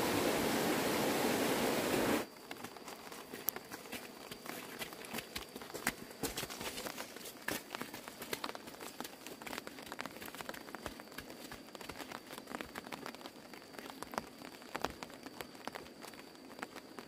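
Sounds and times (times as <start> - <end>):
light rain on leaves: 0.0 - 17.0.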